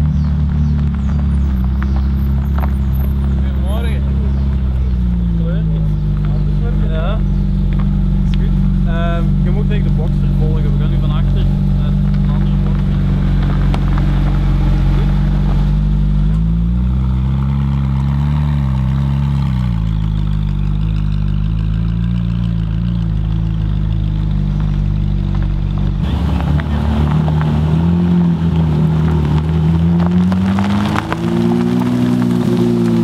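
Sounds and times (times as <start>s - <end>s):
sports car engine at low revs: 0.0s - 33.0s.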